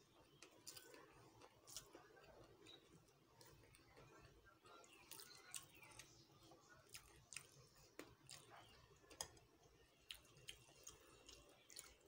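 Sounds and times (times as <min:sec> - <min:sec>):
chewing: 0:00.1 - 0:12.0.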